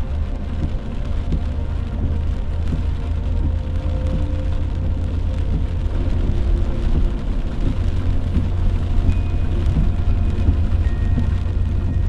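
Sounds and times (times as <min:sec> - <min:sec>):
engine and tyre rumble: 0:00.0 - 0:12.0
rain and road spray hiss: 0:00.0 - 0:12.0.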